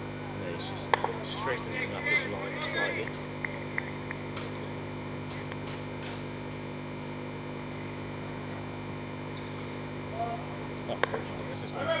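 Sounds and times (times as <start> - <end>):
faint background ambience: 0.0 - 12.0
steady low hum: 0.0 - 12.0.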